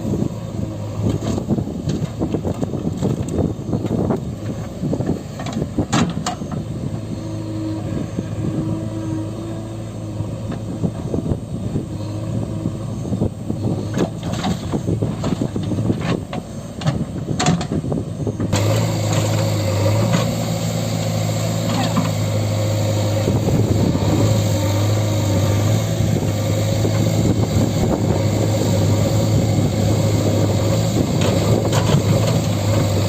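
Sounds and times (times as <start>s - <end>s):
diesel machinery running: 0.0s - 33.0s.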